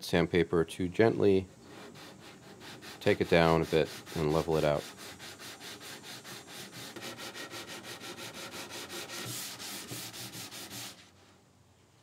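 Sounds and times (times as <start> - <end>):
sandpaper rasping strokes: 1.6 - 11.3.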